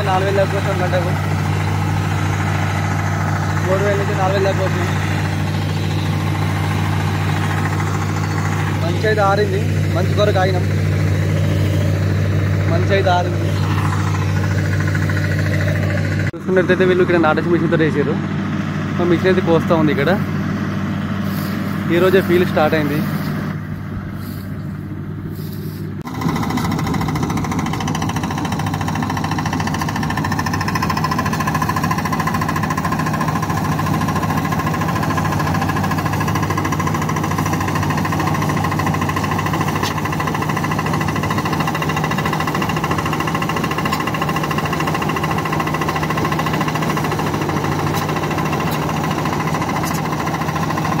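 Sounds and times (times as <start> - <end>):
combine harvester engine drone: 0.0 - 51.0
cutting and threshing machinery hum: 0.0 - 51.0.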